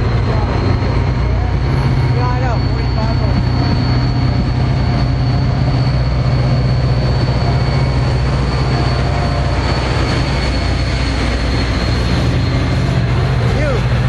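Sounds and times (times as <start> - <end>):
train locomotive idling: 0.0 - 14.0.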